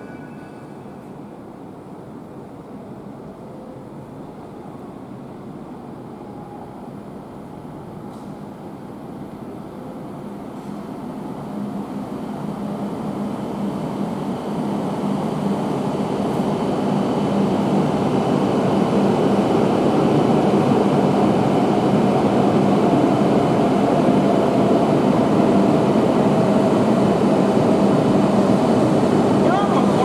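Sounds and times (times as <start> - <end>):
high-speed train rushing past: 0.0 - 30.0.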